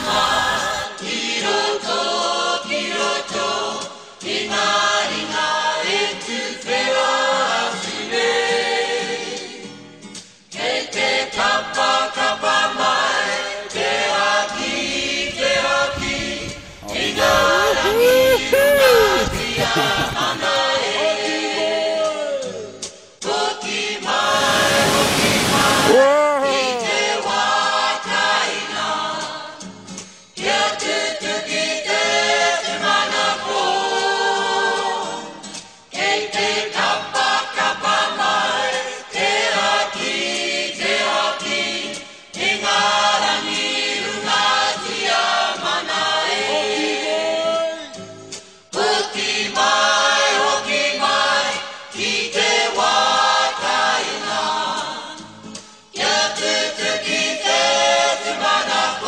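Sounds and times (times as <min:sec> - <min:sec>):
choir singing: 0:00.0 - 0:09.6, 0:10.6 - 0:22.2, 0:23.2 - 0:25.9, 0:26.8 - 0:29.6, 0:30.4 - 0:35.4, 0:36.0 - 0:47.7, 0:48.8 - 0:55.2, 0:56.0 - 0:59.0.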